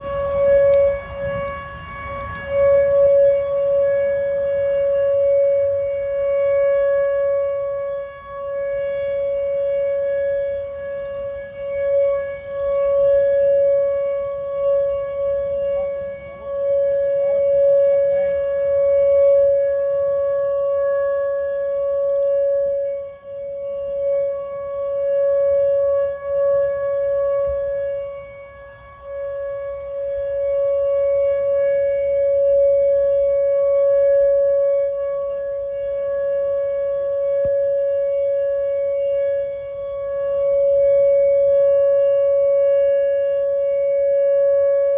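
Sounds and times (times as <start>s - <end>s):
warning siren steady tone: 0.0s - 44.9s.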